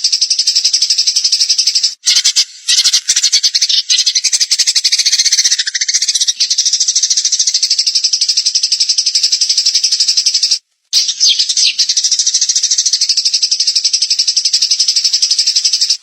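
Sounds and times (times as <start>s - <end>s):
songbird rattling trill: 0.0s - 16.0s.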